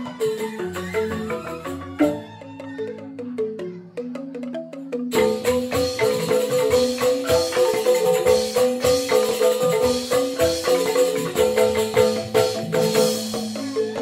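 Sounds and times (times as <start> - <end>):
bamboo xylophones playing: 0.0 - 14.0.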